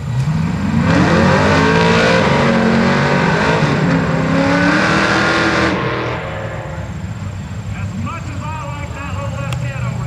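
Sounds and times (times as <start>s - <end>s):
drag racing car engine accelerating: 0.0s - 10.0s.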